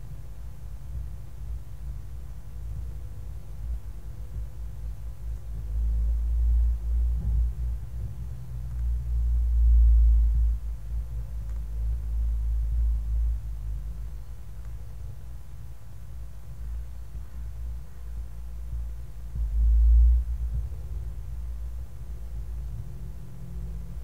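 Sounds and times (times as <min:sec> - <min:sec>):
road noise: 0:00.0 - 0:24.0
vehicle engine rumble: 0:00.0 - 0:24.0.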